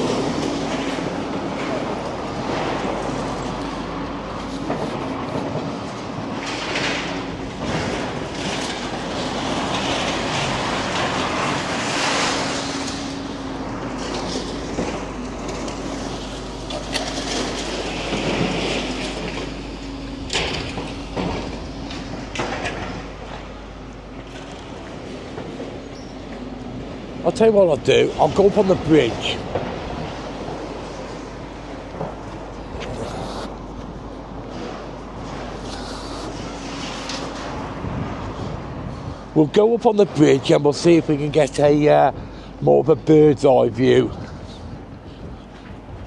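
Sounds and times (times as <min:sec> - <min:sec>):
diesel engine drone: 0:00.0 - 0:46.0.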